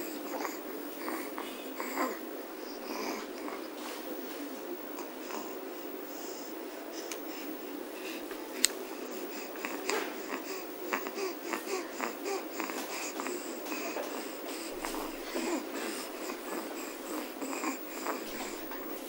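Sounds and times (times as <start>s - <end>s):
baby breathing: 0.0s - 4.1s, 5.2s - 8.4s, 9.0s - 19.0s.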